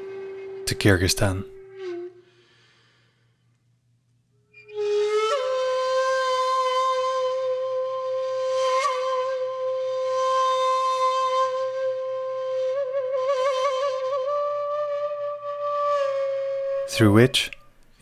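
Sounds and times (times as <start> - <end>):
flute playing long note: 0.0 - 2.9, 4.5 - 17.0.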